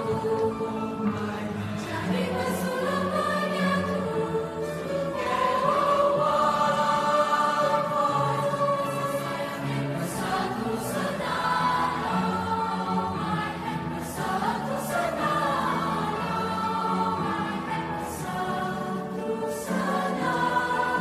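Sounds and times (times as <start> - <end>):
choir singing held chords: 0.0 - 21.0.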